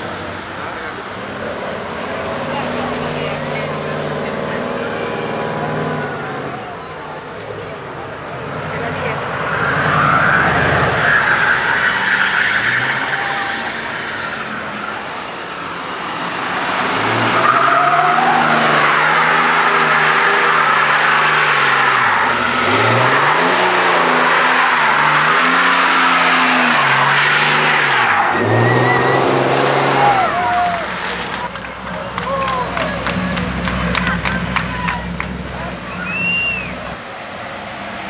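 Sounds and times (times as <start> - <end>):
pickup engine revving: 0.0 - 6.9, 8.3 - 37.1
truck driving off: 0.0 - 38.0
tyres squealing on asphalt: 0.0 - 38.0.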